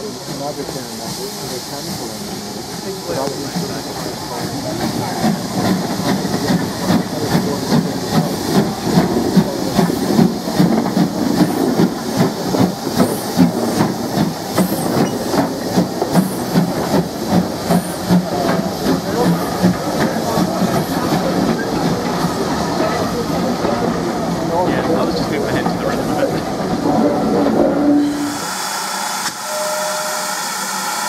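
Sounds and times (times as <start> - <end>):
rhythmic hissing steam: 0.0 - 31.0
steam locomotive passing: 0.0 - 31.0.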